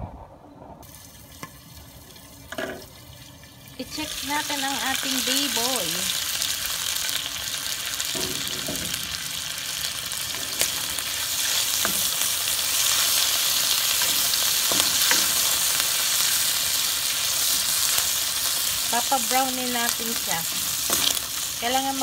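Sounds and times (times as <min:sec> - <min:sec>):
pork sizzling in fat: 0:00.8 - 0:22.0.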